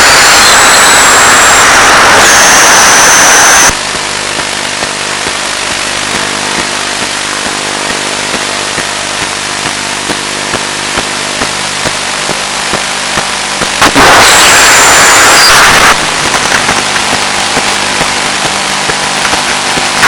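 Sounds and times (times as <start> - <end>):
crackling interference clicks: 0.0 - 20.0
radio static hiss: 0.0 - 20.0.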